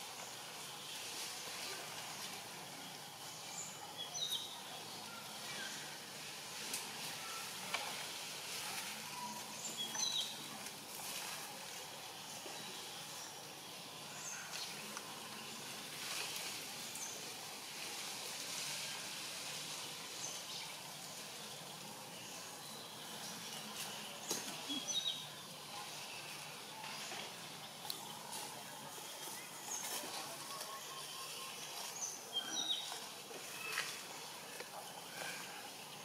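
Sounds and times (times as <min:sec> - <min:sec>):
outdoor background hiss: 0:00.0 - 0:36.0.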